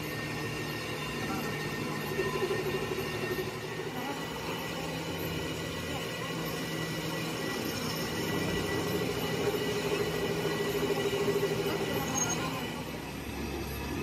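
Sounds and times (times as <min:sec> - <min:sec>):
machine tool humming: 0:00.0 - 0:14.0
high squeal: 0:00.3 - 0:13.0.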